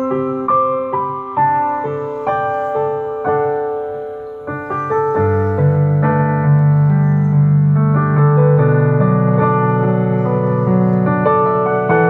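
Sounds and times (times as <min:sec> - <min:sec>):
digital piano melody: 0:00.0 - 0:12.0.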